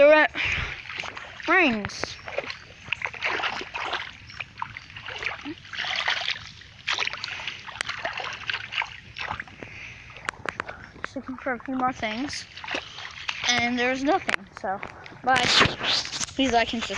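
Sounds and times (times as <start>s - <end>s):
footsteps splashing through mud: 0.0s - 16.9s.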